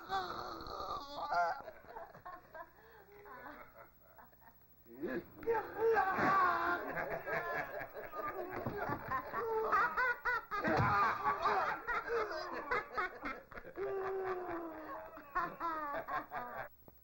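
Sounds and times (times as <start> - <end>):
people laughing: 1.3 - 16.7.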